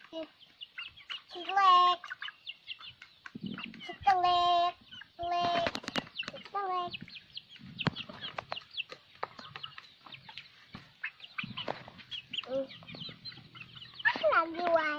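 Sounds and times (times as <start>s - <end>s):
chickens clucking: 0.0s - 14.9s.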